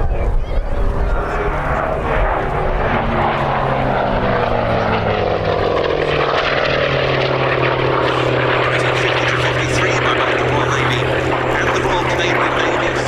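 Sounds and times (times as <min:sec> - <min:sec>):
aircraft radial engine flypast: 0:00.0 - 0:13.0.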